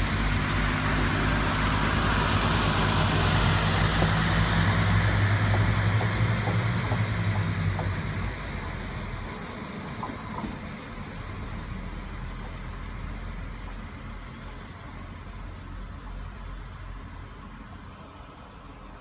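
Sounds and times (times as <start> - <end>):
diesel train pulling away: 0.0 - 19.0.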